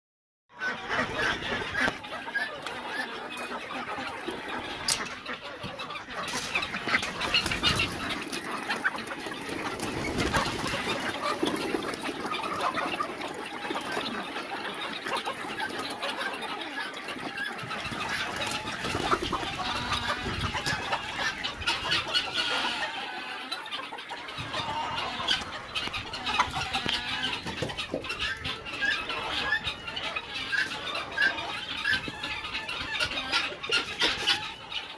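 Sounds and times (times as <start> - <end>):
chickens clucking: 0.5 - 34.9.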